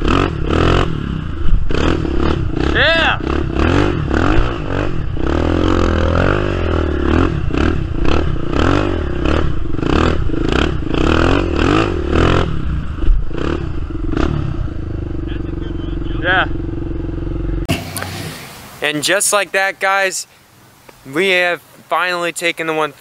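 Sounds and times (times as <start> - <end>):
quad bike engine revving: 0.0 - 18.6.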